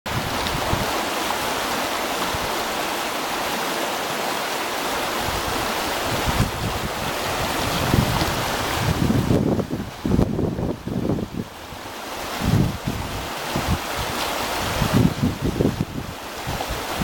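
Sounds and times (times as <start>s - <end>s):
wind buffeting microphone: 0.1s - 2.8s, 5.0s - 17.0s
water rushing down a channel: 0.1s - 17.0s.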